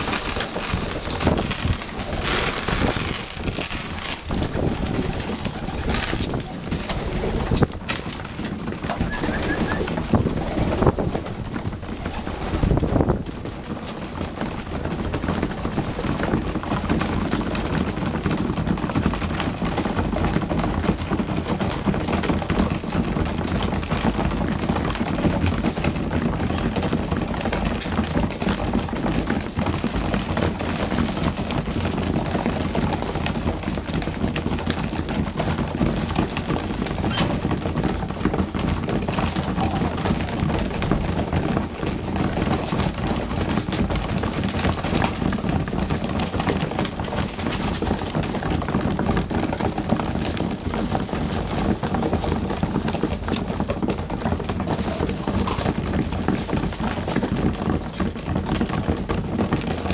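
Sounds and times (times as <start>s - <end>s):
pigeons pecking grain on concrete: 0.0s - 59.9s.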